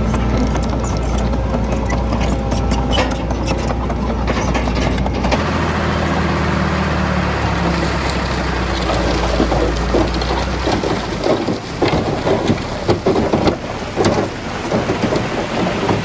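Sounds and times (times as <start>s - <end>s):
heavy machinery diesel engine: 0.0s - 16.0s
rattling and clanking: 0.0s - 16.0s.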